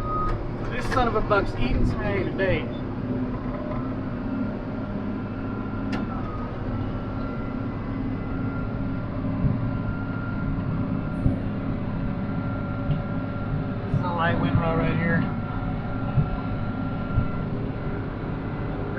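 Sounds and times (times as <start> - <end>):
thin machinery whine: 0.0 - 18.9
tractor engine running: 0.0 - 18.9.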